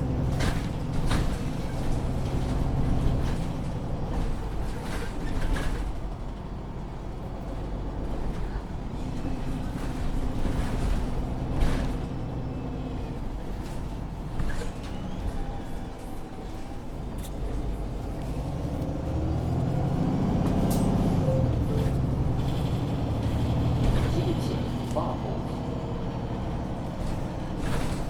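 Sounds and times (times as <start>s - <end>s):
bus body knocking and rattling: 0.0s - 28.0s
bus engine running: 0.0s - 28.0s.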